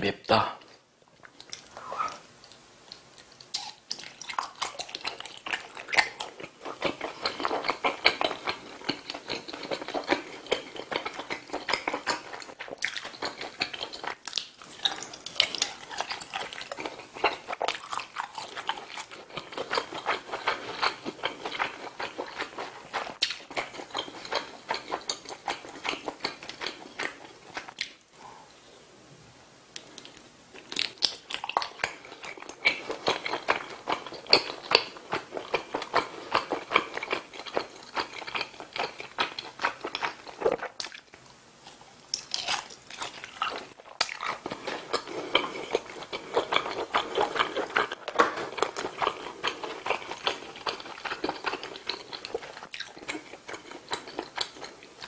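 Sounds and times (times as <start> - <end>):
wet chewing and mouth smacks: 1.2 - 28.0, 29.8 - 55.0.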